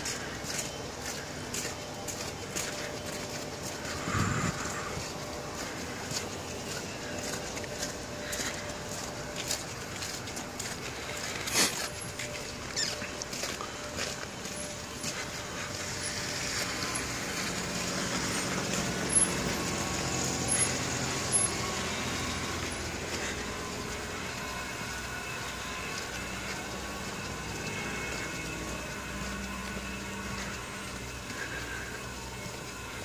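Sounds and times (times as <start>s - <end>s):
road noise: 0.0s - 33.0s
vehicle engine hum: 0.0s - 33.0s.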